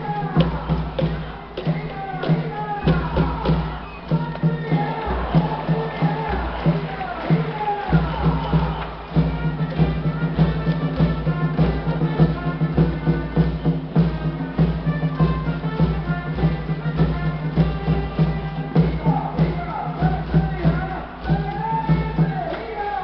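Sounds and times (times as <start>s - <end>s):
cheer song melody: 0.0s - 23.0s
steady drum beat: 0.0s - 23.0s.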